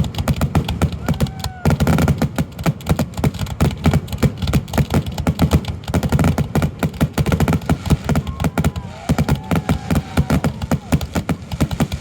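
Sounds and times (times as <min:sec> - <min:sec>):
fireworks booming and cracking: 0:00.0 - 0:12.0
fireworks whistling: 0:00.0 - 0:12.0.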